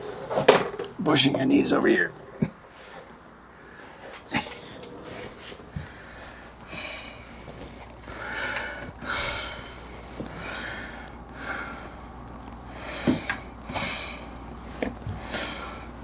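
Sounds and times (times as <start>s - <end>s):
man breathing heavily: 2.6s - 16.0s.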